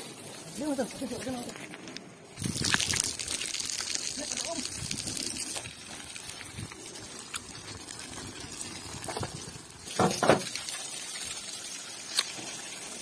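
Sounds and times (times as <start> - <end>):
hose water spraying: 0.0 - 1.6, 2.2 - 13.0
water dripping: 2.4 - 13.0.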